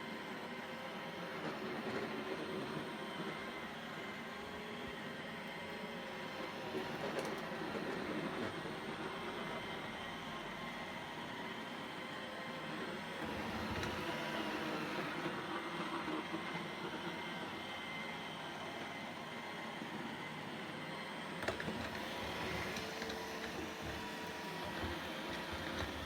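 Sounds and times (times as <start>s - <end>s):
robot vacuum running: 0.1s - 26.0s.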